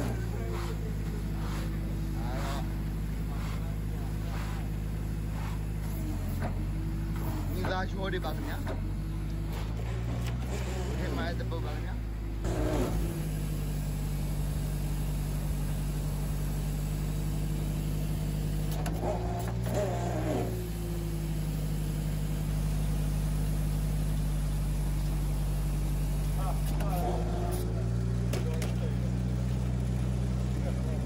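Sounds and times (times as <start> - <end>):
truck engine humming: 0.0 - 31.0.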